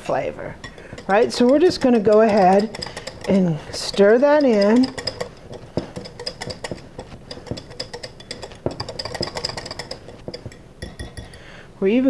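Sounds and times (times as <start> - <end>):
whisk scraping a glass bowl: 0.4 - 11.4.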